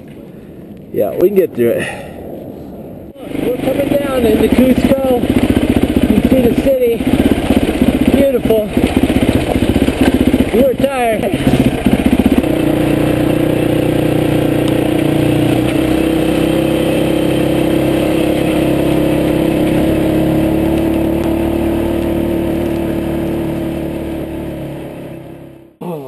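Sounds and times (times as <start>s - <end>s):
dirt bike engine running: 3.2s - 25.8s.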